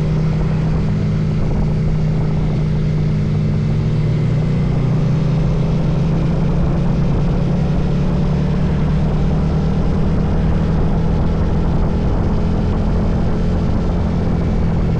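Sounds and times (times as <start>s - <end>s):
engine running steadily: 0.0s - 14.9s
wind buffeting microphone: 0.0s - 14.9s.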